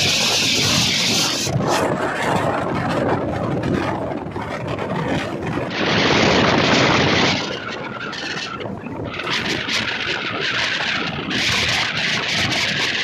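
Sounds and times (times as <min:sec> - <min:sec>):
express train running on track: 0:00.0 - 0:13.0.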